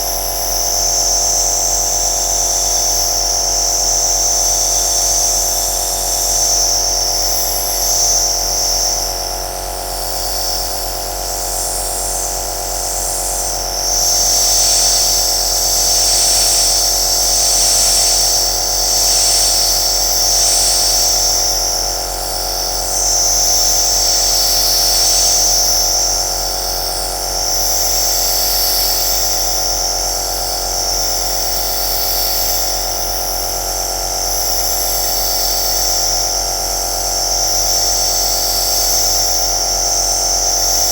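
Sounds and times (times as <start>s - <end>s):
nebulizer motor hum and hiss: 0.0s - 40.9s.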